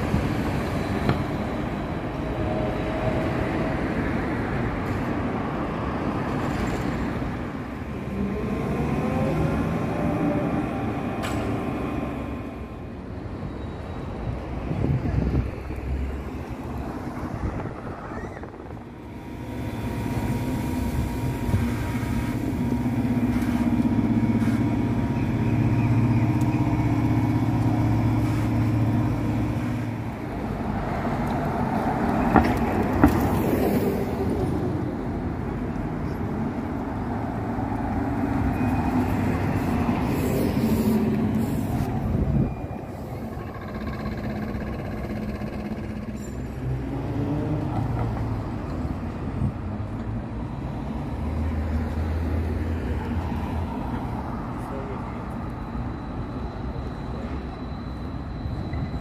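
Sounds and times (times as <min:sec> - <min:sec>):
low drone of traffic: 0:00.0 - 0:59.0.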